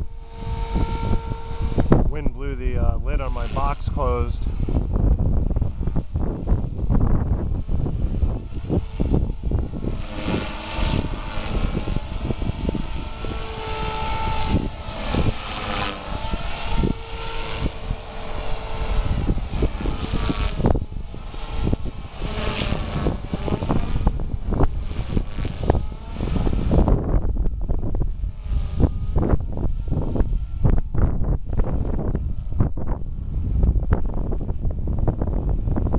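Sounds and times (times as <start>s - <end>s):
rc helicopter rotor whine: 0.0s - 35.9s
wind buffeting microphone: 0.0s - 35.9s.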